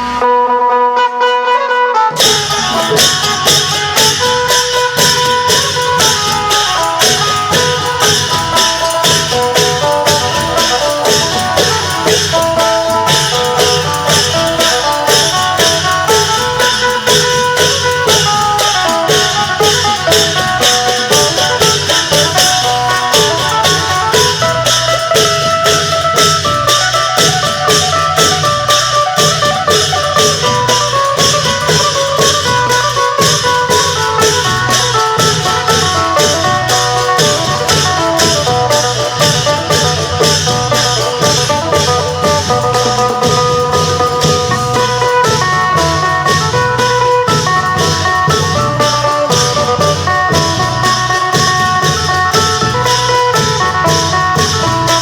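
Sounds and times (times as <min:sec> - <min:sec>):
plucked lute melody: 0:00.0 - 0:55.0
drums beating: 0:02.0 - 0:55.0.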